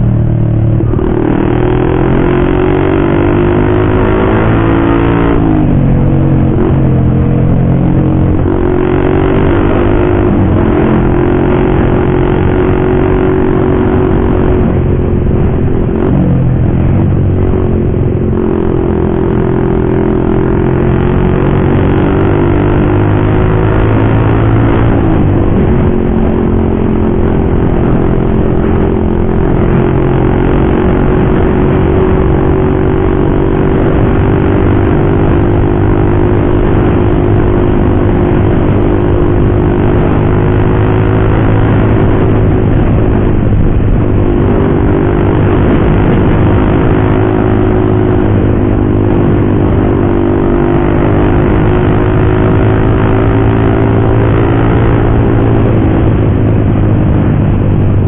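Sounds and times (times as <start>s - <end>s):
motorcycle with loud racing exhaust: 0.0s - 58.0s.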